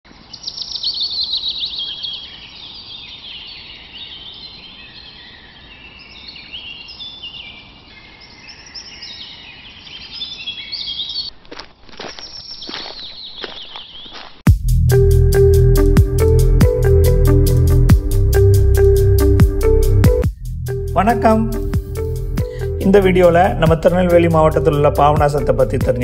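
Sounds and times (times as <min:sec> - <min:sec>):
birds chirping: 0:00.1 - 0:26.0.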